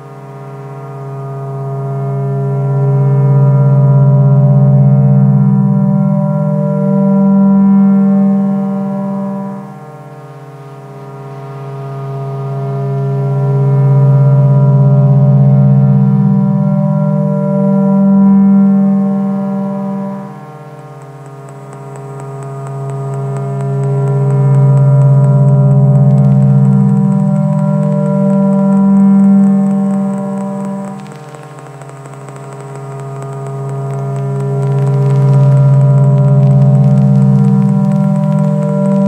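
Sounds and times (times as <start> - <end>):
low synthesizer drone: 0.0 - 39.0.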